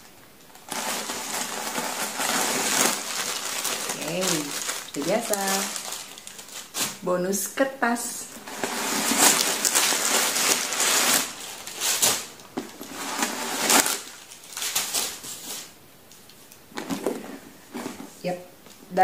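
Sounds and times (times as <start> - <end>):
paper rustling and crinkling: 0.5 - 7.0, 8.4 - 18.2.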